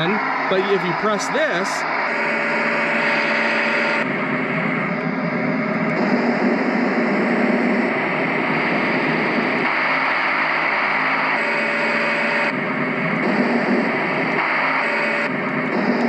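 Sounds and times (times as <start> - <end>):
white noise machine: 0.0 - 16.0.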